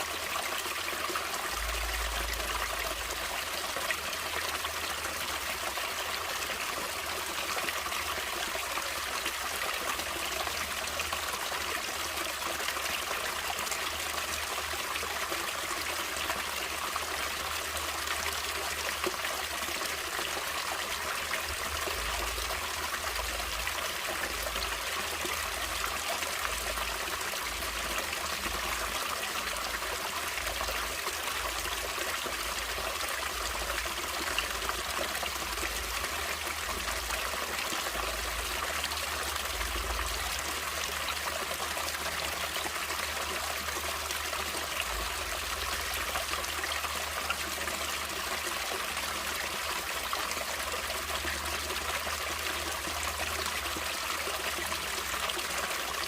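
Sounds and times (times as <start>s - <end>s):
stream flowing: 0.0s - 56.0s.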